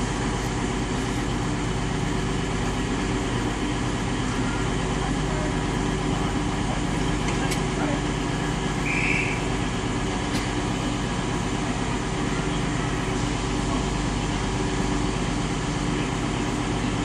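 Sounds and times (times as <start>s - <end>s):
train engine humming: 0.0s - 17.0s.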